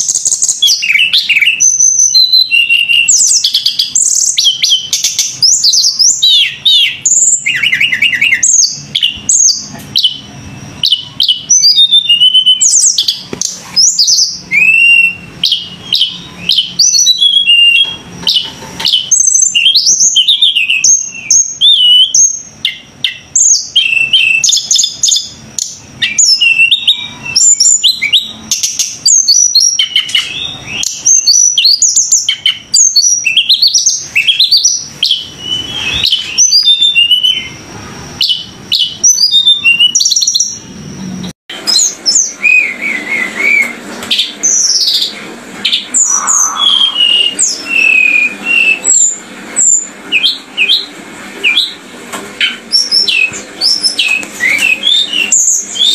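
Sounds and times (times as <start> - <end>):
bird chirping and twittering: 0.0 - 55.9.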